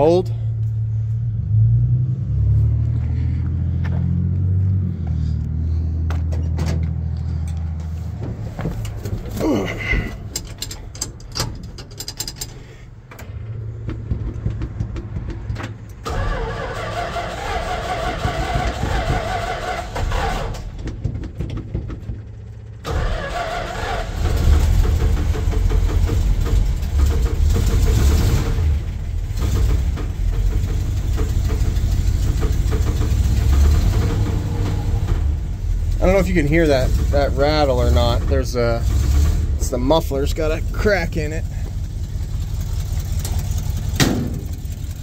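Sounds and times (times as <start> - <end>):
engine starting and running: 0.0 - 45.0
exhaust rattling: 0.0 - 45.0.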